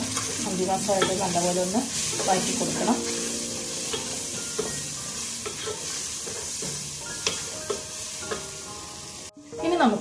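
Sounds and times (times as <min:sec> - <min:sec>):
masala sizzling in a pan: 0:00.0 - 0:10.0.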